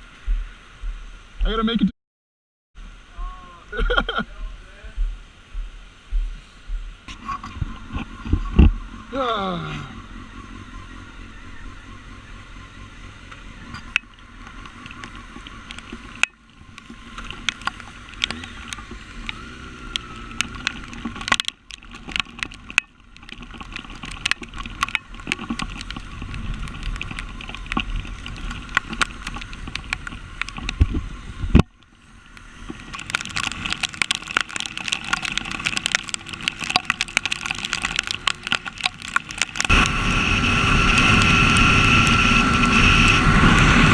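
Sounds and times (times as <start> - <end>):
wind noise: 2.8 - 43.9
motorcycle engine: 7.4 - 43.9.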